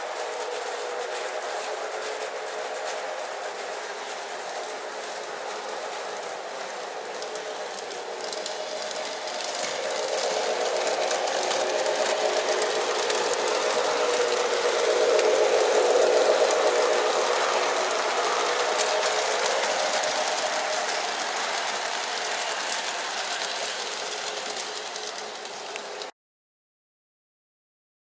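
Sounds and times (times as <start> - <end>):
model train mechanical whir: 0.0 - 26.1
wheels clicking on rails: 0.0 - 26.1.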